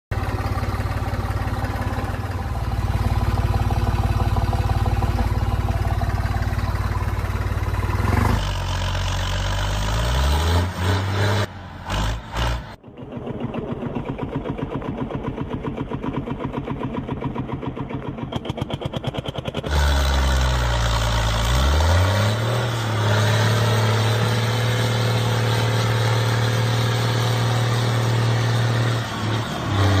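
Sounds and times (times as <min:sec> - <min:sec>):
engine chugging: 0:00.1 - 0:10.2, 0:11.5 - 0:30.0
steady engine drone: 0:00.1 - 0:30.0.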